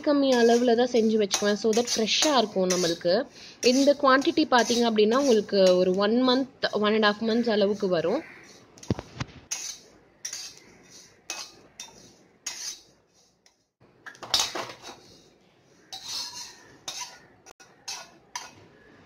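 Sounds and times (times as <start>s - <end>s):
metal spatula scraping a pan: 0.0s - 19.0s.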